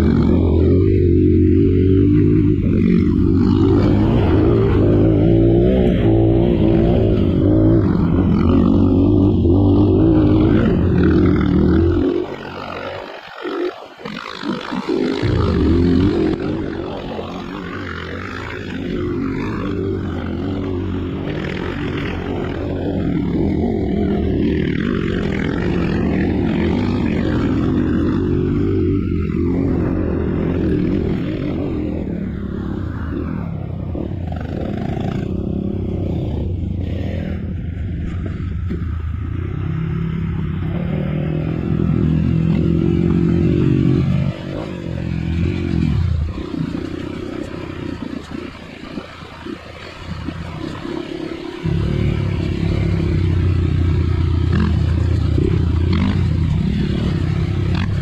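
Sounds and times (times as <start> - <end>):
motorcycle engine running: 0.0 - 13.0, 14.5 - 58.0.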